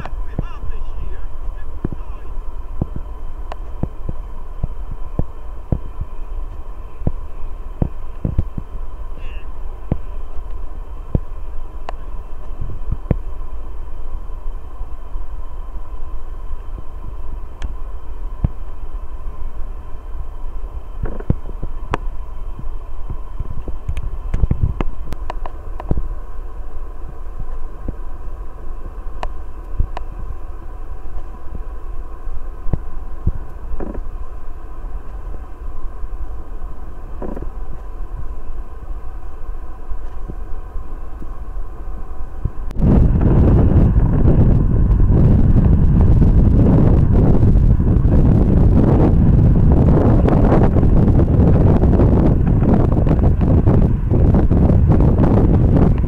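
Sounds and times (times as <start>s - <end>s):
distant jet engines whining: 0.0s - 56.0s.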